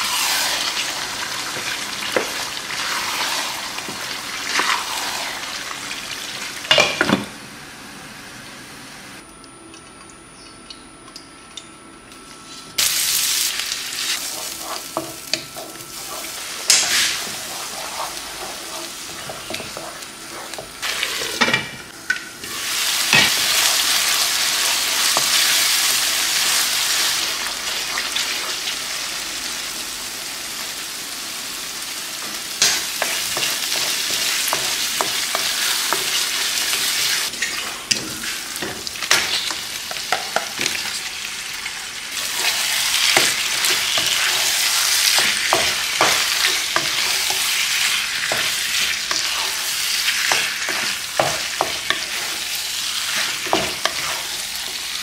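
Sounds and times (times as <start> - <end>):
food sizzling in a pan: 0.0 - 7.1, 12.8 - 55.0.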